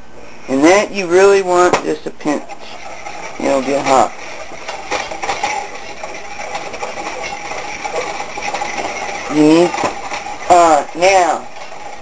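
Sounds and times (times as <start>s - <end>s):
whisk clinking against pan: 1.4s - 12.0s.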